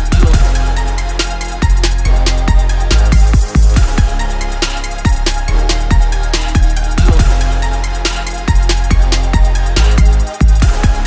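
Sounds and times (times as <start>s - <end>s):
music with deep bass and drum beat: 0.0s - 11.0s.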